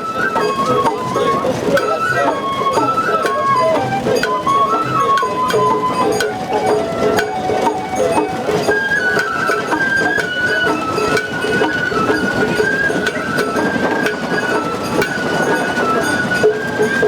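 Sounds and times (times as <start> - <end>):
bamboo flute melody: 0.0 - 17.0
drums beating: 0.0 - 17.0
struck metal percussion: 0.0 - 17.0.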